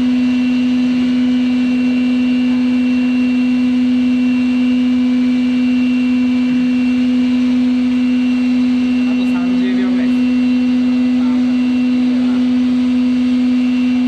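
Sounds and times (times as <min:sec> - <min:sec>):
lathe humming: 0:00.0 - 0:14.0.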